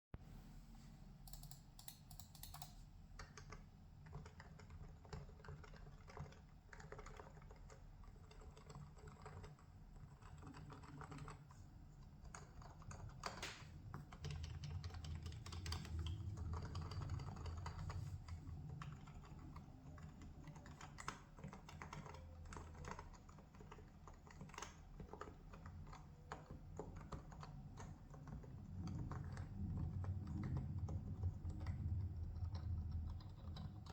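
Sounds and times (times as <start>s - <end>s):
low steady hum: 0.2s - 33.9s
keyboard typing: 1.2s - 33.9s.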